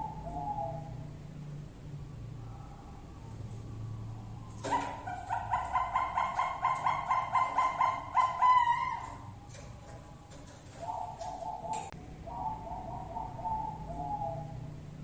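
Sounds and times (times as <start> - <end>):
dove cooing: 0.0 - 1.3, 2.3 - 15.0.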